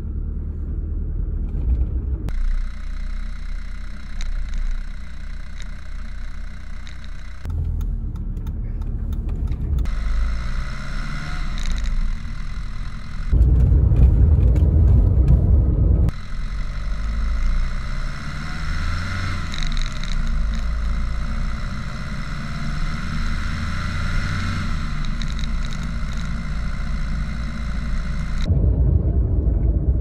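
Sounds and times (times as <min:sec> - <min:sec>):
diesel engine running: 0:00.0 - 0:30.0
heavy low rumble: 0:00.0 - 0:30.0
road and tyre noise: 0:00.0 - 0:30.0.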